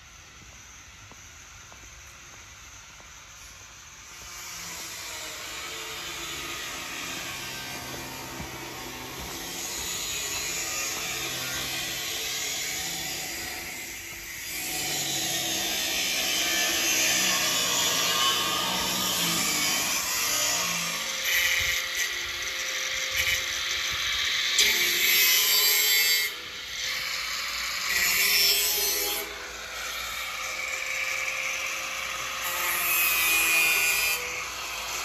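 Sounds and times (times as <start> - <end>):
power tool running: 4.1 - 35.0.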